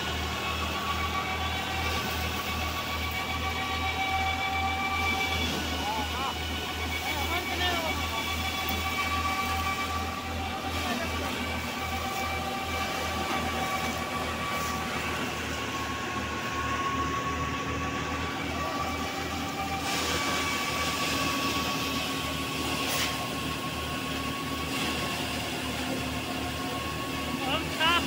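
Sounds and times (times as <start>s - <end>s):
thresher running with whine: 0.0s - 28.0s.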